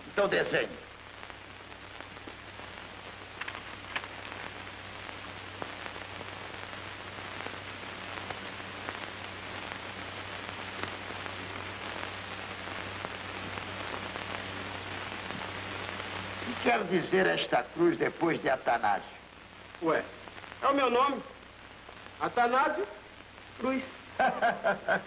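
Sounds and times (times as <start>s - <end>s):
film soundtrack hiss and crackle: 0.0s - 25.0s
low constant hum: 0.0s - 25.0s.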